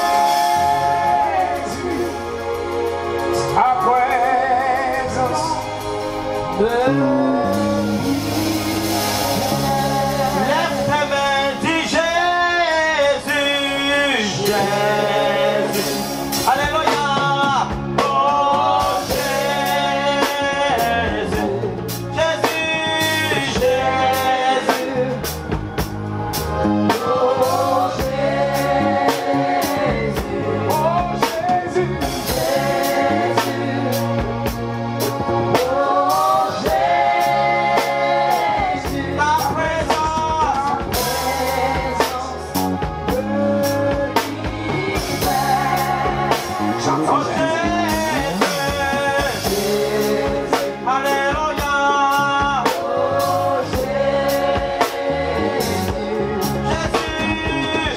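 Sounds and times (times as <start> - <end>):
person singing: 0.0 - 25.6, 26.4 - 57.9
bass guitar: 0.0 - 57.9
drum kit beat: 0.0 - 57.9
live band playing gospel: 0.0 - 57.9.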